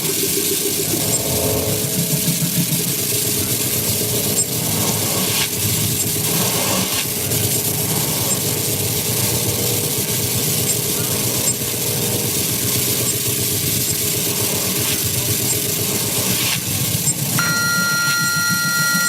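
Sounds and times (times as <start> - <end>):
low rumbling drone: 0.0 - 19.0.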